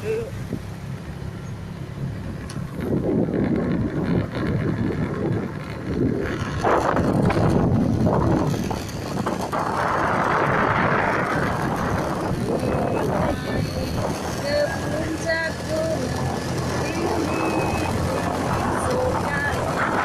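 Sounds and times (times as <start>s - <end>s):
moving vehicle rumble: 0.0s - 20.0s
wind buffeting microphone: 0.1s - 20.0s.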